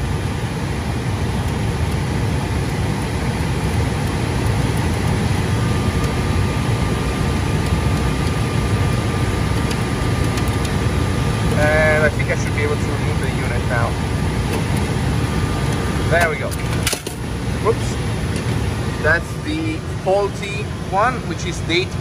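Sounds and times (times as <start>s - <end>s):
cooling blowers droning: 0.0s - 22.0s
thin steady whine: 0.0s - 22.0s.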